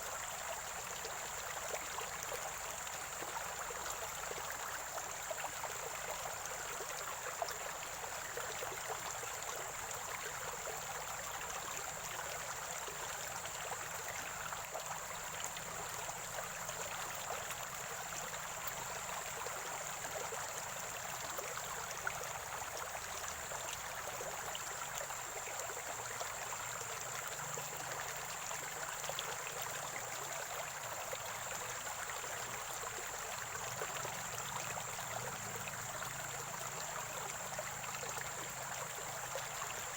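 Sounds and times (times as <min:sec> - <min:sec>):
steady high-pitched hiss: 0:00.0 - 0:39.9
stream gurgling and trickling: 0:00.0 - 0:39.9.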